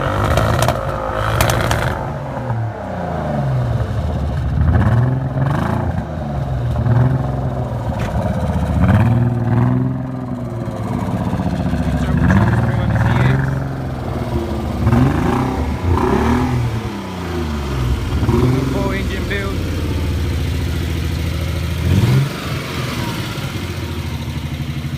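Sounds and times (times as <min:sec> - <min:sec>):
car engine revving with misfire: 0:00.0 - 0:24.9.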